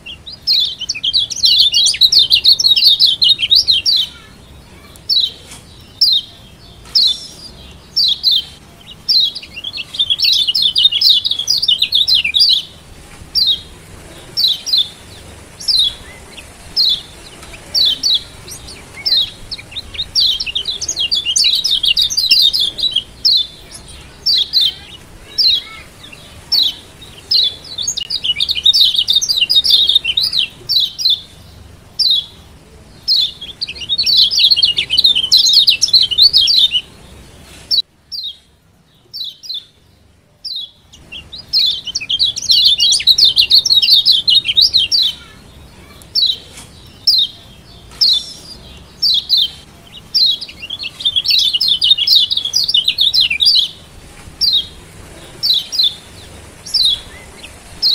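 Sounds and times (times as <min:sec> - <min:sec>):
bird giving high chirps: 0:00.0 - 0:38.4, 0:40.5 - 0:57.9.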